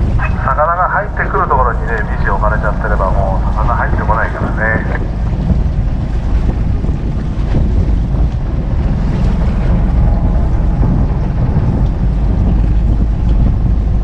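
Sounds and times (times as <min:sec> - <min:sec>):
boat engine rumbling: 0:00.0 - 0:14.0
wind buffeting microphone: 0:00.0 - 0:14.0.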